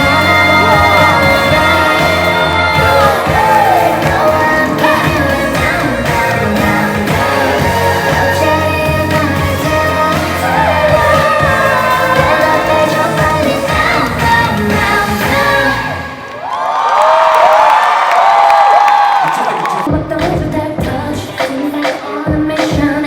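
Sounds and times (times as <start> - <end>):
live pop backing music: 0.0 - 16.2, 19.9 - 23.0
woman singing lead: 0.0 - 16.4, 19.9 - 23.0.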